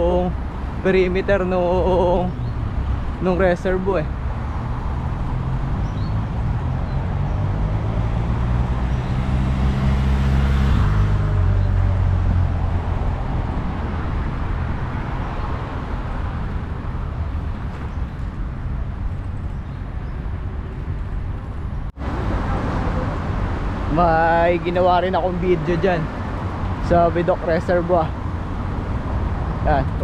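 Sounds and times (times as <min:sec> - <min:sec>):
steady road noise: 0:00.0 - 0:30.0
vehicle engine hum: 0:00.0 - 0:30.0.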